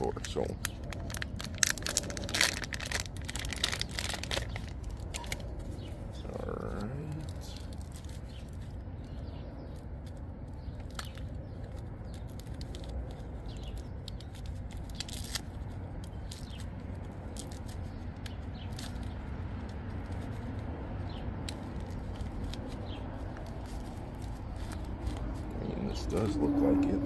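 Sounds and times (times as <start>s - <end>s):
plastic packaging crinkling: 0.0s - 6.1s, 6.7s - 20.6s, 21.4s - 25.5s.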